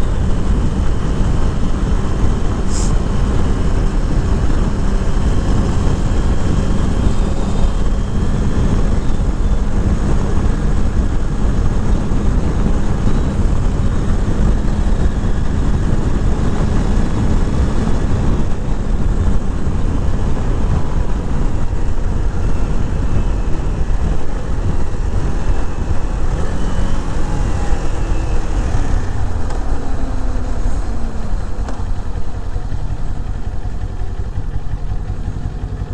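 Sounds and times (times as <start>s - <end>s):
motorcycle engine running: 0.0s - 35.9s
wind rush on microphone: 0.0s - 35.9s.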